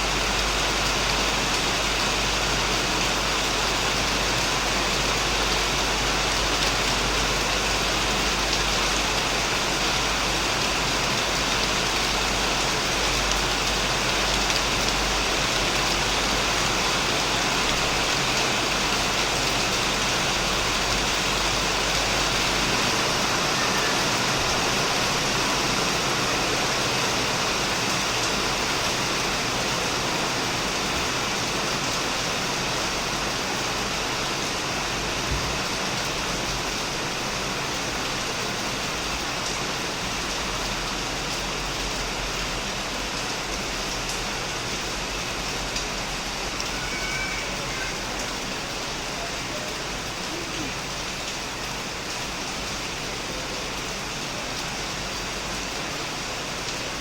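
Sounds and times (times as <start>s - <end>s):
heavy rain on a shed roof: 0.0s - 57.0s.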